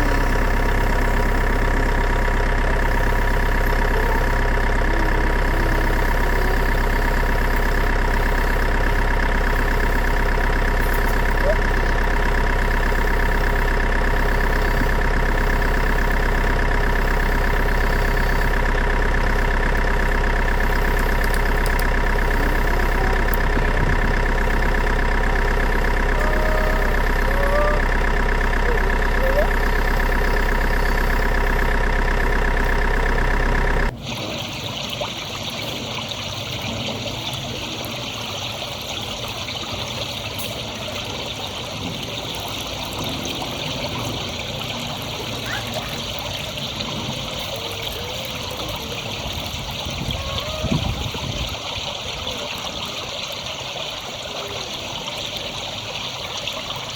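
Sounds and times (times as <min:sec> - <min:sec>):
engine idling drone: 0:00.0 - 0:56.9.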